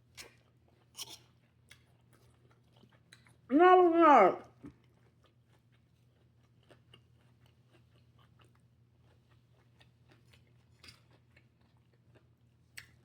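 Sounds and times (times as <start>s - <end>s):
faint chewing with mouth clicks: 0.0s - 3.5s, 4.4s - 13.0s.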